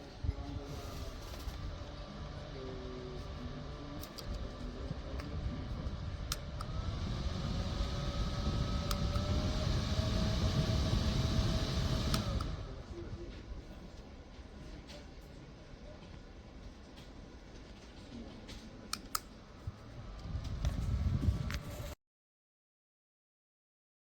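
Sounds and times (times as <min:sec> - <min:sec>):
desk fan airflow buffeting microphone: 0:00.0 - 0:22.0
faint motor whine: 0:00.0 - 0:22.0.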